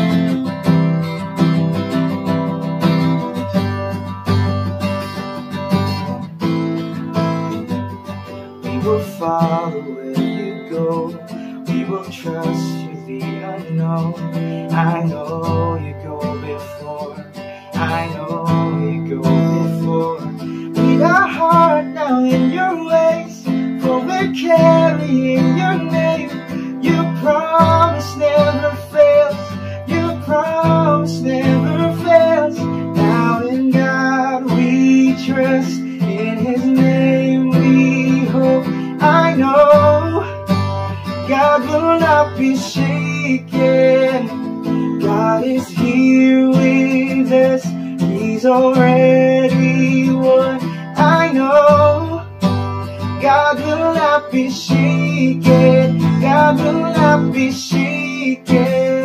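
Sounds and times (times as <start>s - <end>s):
strummed acoustic guitar: 0.0s - 59.0s.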